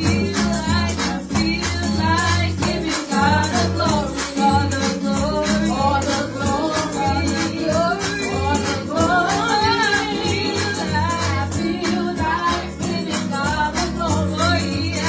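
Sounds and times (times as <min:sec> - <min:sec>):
backing music with bass and percussion: 0:00.0 - 0:15.0
women singing gospel song: 0:00.0 - 0:15.0.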